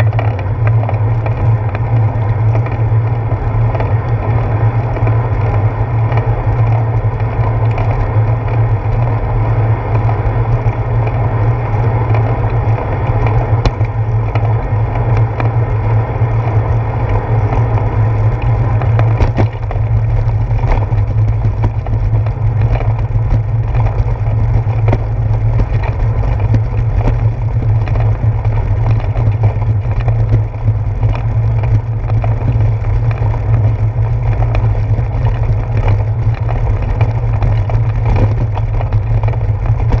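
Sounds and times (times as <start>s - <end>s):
wind buffeting camera: 0.0s - 40.0s.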